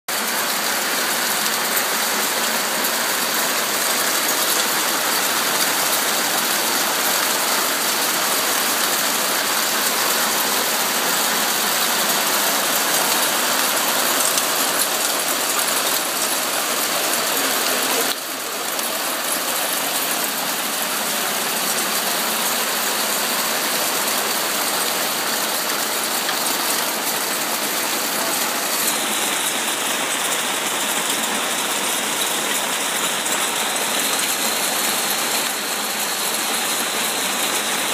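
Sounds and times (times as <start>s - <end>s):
hail falling hard: 0.1s - 37.9s.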